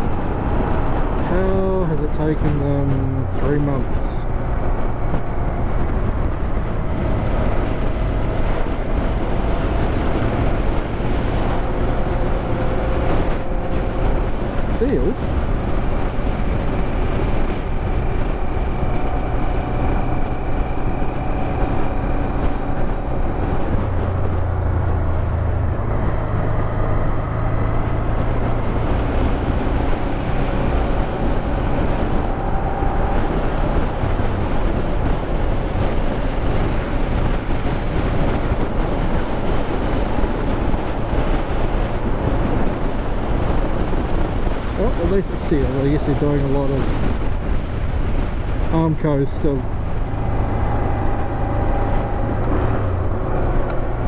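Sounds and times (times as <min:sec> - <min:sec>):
motorcycle engine hum: 0:00.0 - 0:54.0
wind and road noise: 0:00.0 - 0:54.0.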